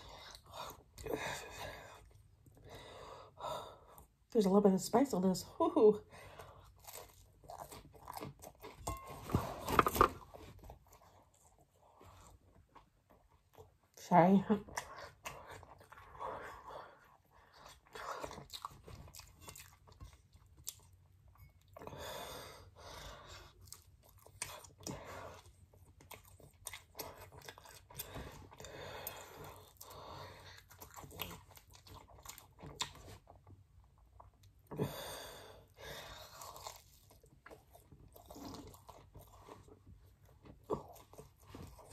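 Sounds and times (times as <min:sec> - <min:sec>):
person chewing pizza: 0:06.2 - 0:14.0, 0:14.6 - 0:41.9.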